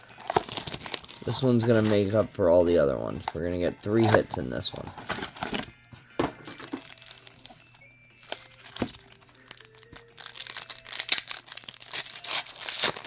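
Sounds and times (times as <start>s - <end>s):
plastic wrapping crinkling and tearing: 0.0s - 5.7s, 6.4s - 13.0s.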